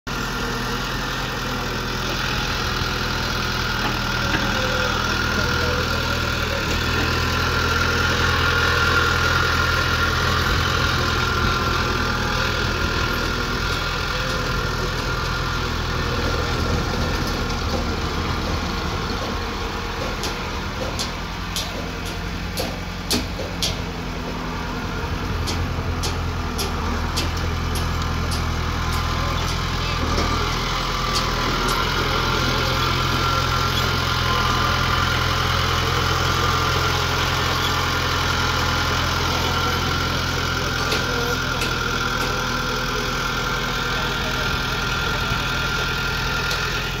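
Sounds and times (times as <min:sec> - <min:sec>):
bulldozer diesel engine running: 0:00.1 - 0:47.0.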